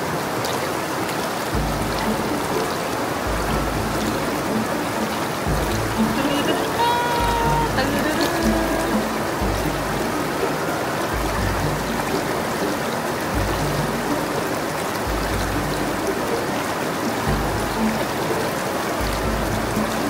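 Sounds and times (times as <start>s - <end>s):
waterfall rushing: 0.0s - 20.0s
background music with low bass: 1.4s - 20.0s.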